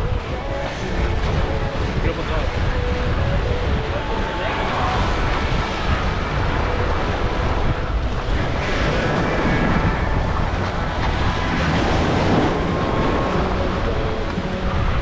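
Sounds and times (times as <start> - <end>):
waves breaking over rocks: 0.0 - 15.0
wind buffeting microphone: 0.0 - 15.0.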